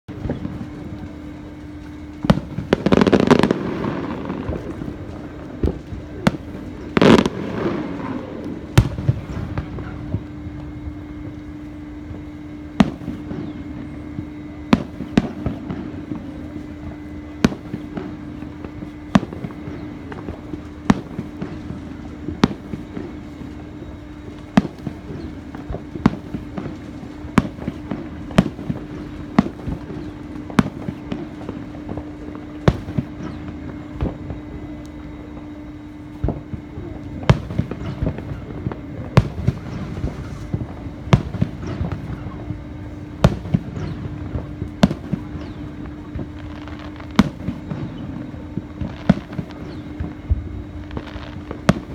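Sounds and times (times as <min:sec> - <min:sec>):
steady low hum: 0:00.0 - 0:51.9
fireworks exploding: 0:00.1 - 0:51.9.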